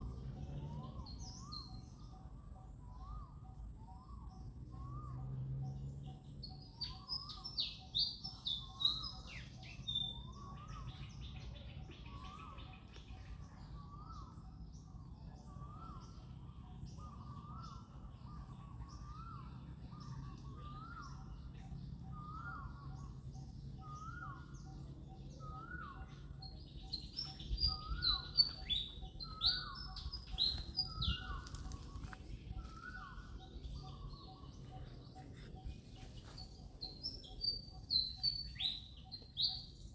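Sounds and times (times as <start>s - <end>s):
high chirping birds: 0.0s - 39.9s.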